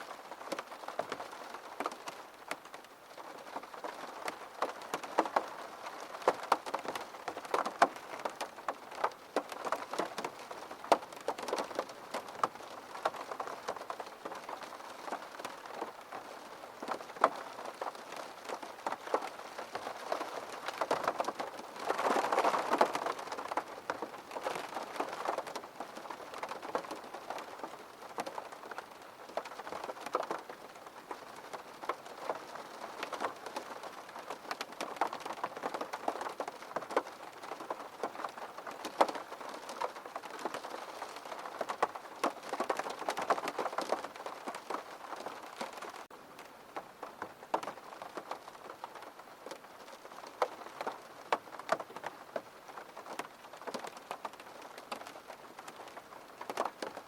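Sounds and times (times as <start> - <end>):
rain drops hitting sharply: 0.0 - 57.0.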